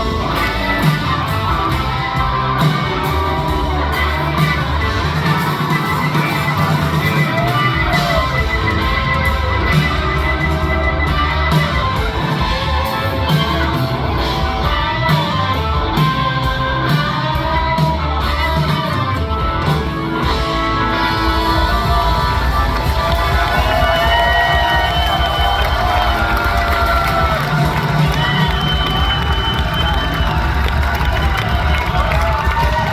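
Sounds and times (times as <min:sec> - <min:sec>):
electric guitar lead: 0:00.0 - 0:32.9
rock band playing: 0:00.0 - 0:32.9.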